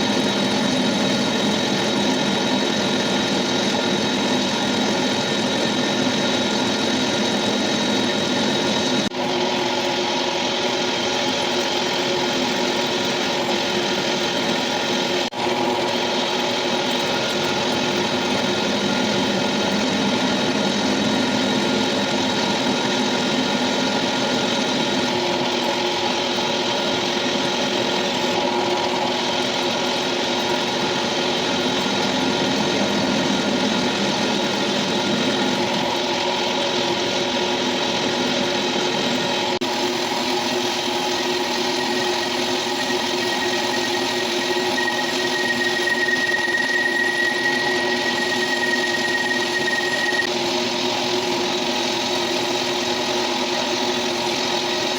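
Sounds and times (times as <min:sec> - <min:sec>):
metalworking machine humming and whining: 0:00.0 - 0:54.9.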